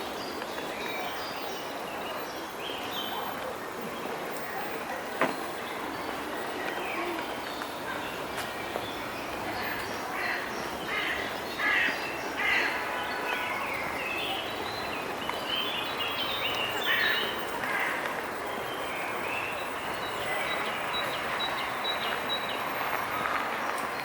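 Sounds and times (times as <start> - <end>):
birds chirping: 0.0 - 24.0
outdoor background hiss: 0.0 - 24.0.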